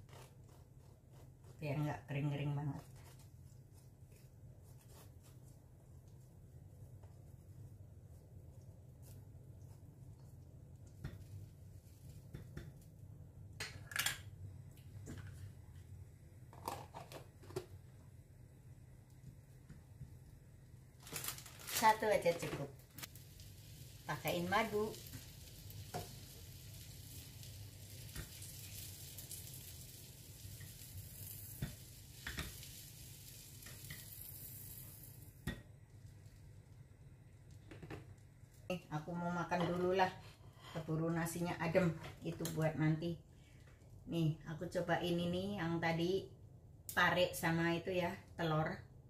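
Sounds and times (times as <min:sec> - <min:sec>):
low steady hum: 0:00.0 - 0:49.0
faint steady hiss: 0:01.1 - 0:45.0.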